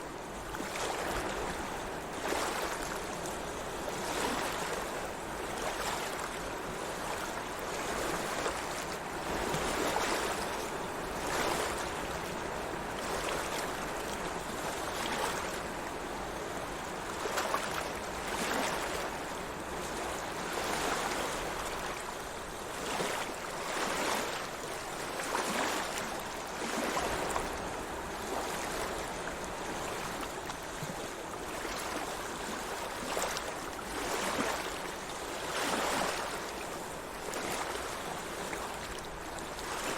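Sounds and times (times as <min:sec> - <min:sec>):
sea water lapping: 0:00.0 - 0:39.9.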